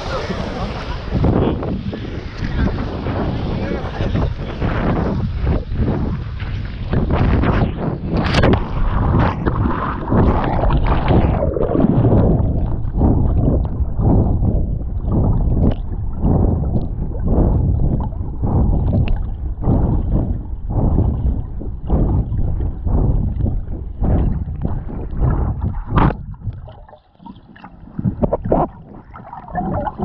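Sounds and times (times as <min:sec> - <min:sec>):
muffled underwater swishing and gurgling: 0:00.0 - 0:30.0
rushing churning water: 0:00.0 - 0:30.0.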